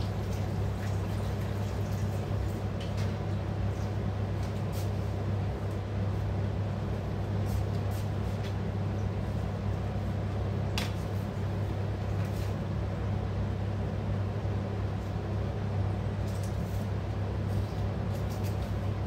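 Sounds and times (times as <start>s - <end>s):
fan-like hum: 0.0s - 19.0s.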